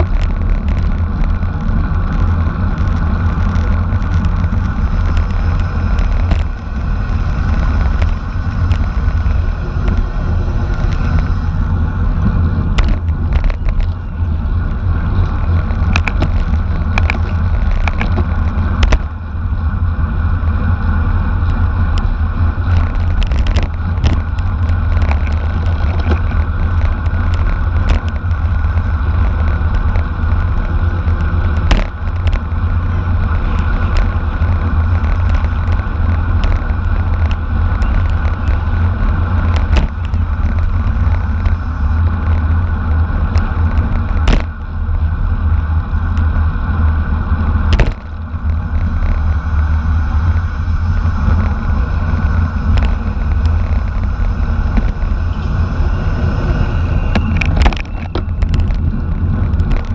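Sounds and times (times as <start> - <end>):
bike clicks and knocks: 0.0 - 19.6, 21.4 - 45.4, 47.4 - 55.5, 57.0 - 59.9
wind rumble on microphone: 0.0 - 59.9.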